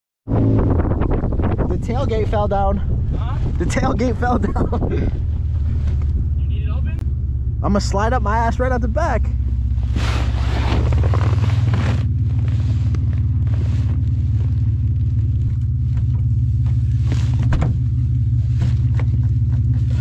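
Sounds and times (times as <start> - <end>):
pickup engine under load: 0.4 - 20.0.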